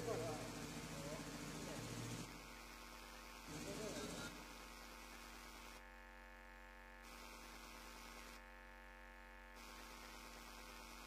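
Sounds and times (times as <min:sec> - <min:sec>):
faint mains hum: 0:00.0 - 0:11.0.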